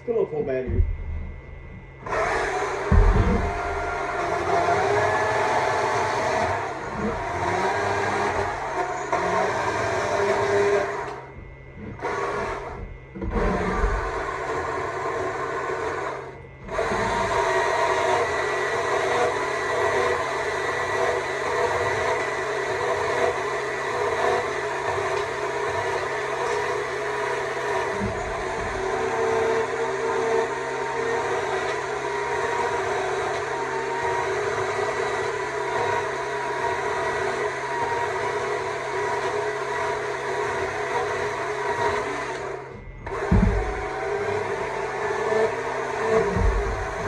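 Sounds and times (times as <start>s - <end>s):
electric chainsaw cutting wood: 0.5s - 47.0s.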